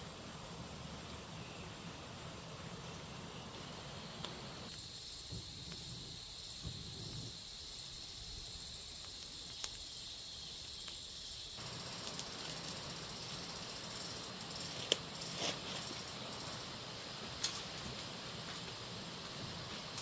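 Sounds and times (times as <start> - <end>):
outdoor hiss: 0.0 - 20.0
high insect-like tone: 1.4 - 20.0.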